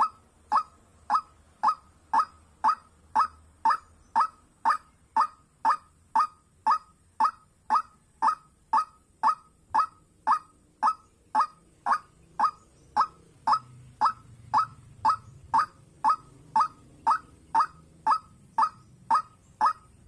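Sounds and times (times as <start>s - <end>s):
waterhen calling: 0.0s - 20.0s.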